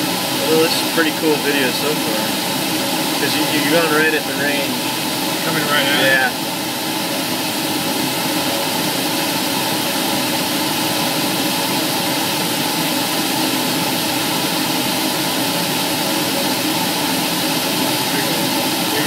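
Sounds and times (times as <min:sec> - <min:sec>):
aircraft engine drone in cabin: 0:00.0 - 0:19.0.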